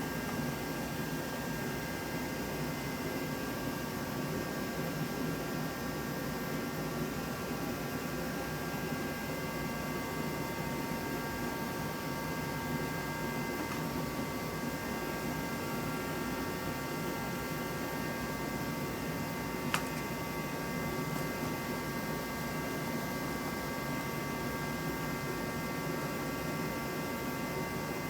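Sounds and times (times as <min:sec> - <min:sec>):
background hum and hiss: 0:00.0 - 0:28.0.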